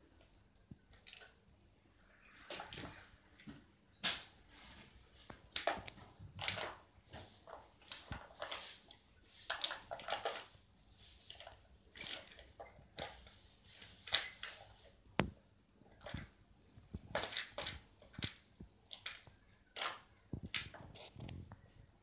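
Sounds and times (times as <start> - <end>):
plastic toy truck rustling and clattering: 0.0 - 1.4, 2.2 - 22.0.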